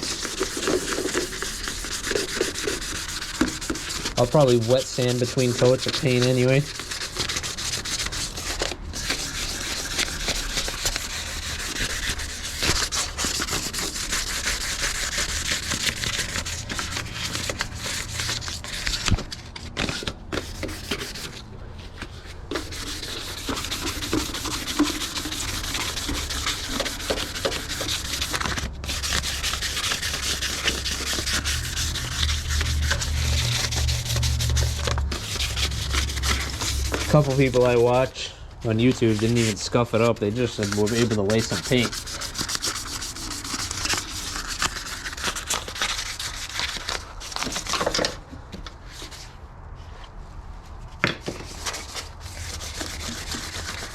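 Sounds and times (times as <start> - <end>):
sandpaper rubbing on sheet metal: 0.0 - 21.4, 22.5 - 48.2, 51.4 - 53.9.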